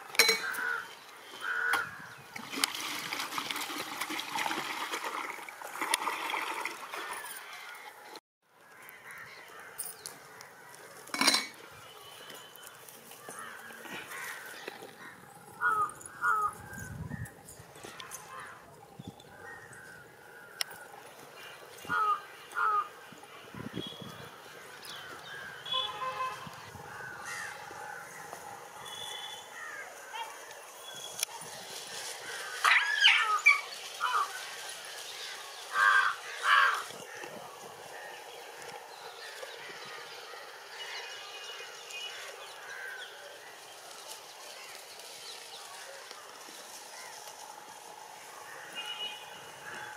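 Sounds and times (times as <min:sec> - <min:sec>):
outdoor background noise: 0:00.0 - 0:49.9.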